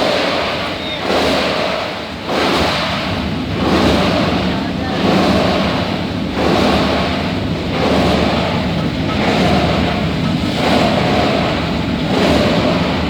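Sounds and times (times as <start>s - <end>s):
machinery churning: 0.0s - 13.0s.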